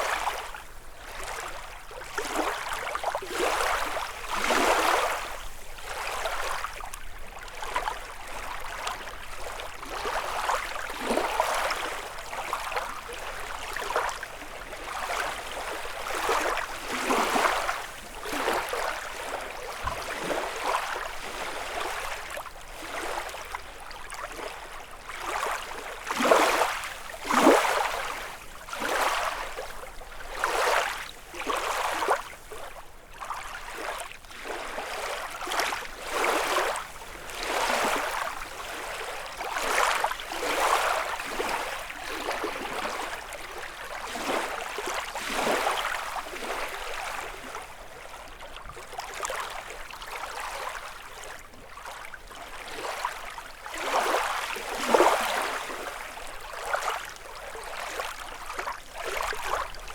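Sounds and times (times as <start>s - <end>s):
waves lapping against shore: 0.0s - 59.9s.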